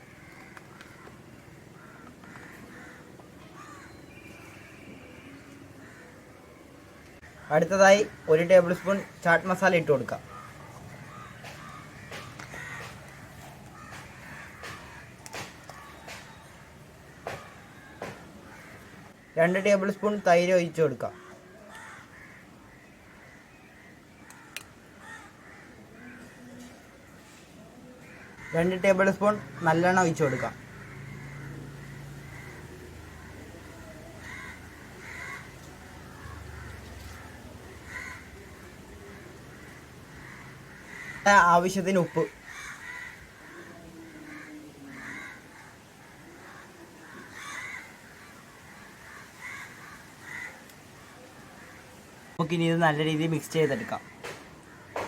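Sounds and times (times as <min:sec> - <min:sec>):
bird calling: 0:00.0 - 0:19.5, 0:21.0 - 0:55.0.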